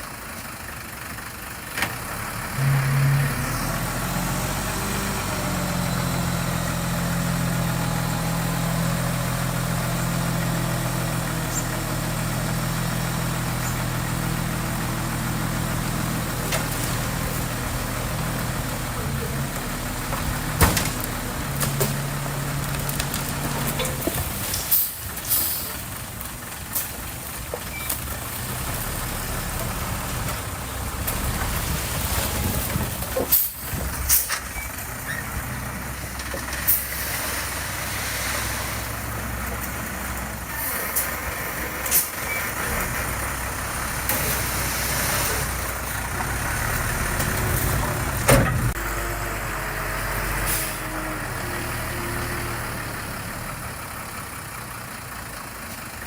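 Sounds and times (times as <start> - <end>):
heavy machinery diesel engines: 0.0 - 56.0.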